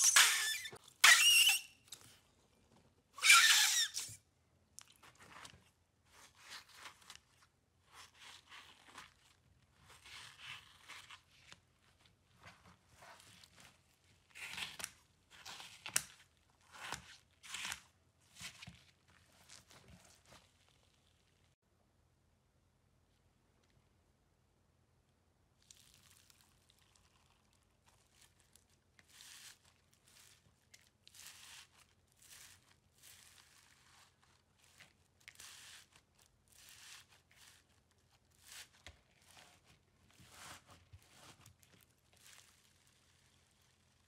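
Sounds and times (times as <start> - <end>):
slime squelching: 3.2 - 21.6, 25.6 - 44.0.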